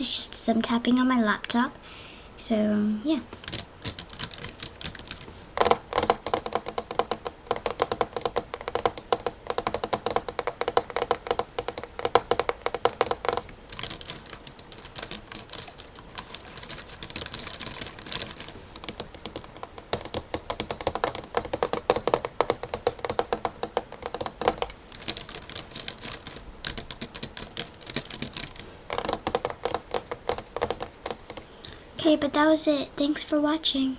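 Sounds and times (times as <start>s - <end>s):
fingers tapping on a laptop: 3.3s - 31.5s.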